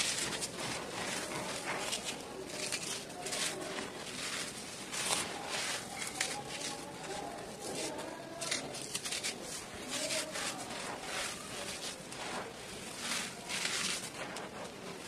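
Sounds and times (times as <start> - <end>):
hands crumbling dry dirt: 0.0 - 15.0.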